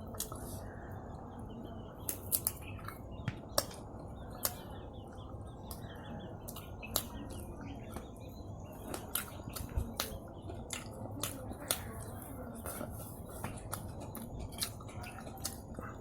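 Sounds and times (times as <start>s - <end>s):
low background hum: 0.0s - 16.0s
chewing crispy fried food: 2.0s - 5.8s, 6.4s - 16.0s.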